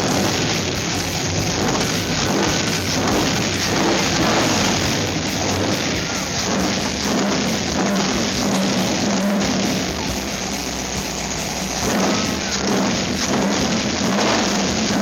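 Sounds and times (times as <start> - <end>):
car engine running: 0.0 - 15.0
rock music: 0.0 - 15.0.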